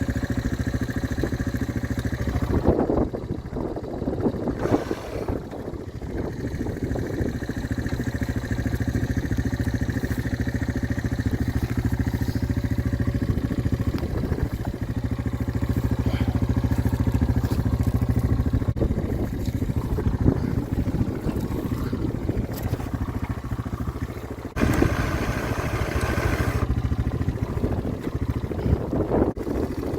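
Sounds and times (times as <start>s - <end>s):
snowmobile engine idling: 0.0s - 29.9s.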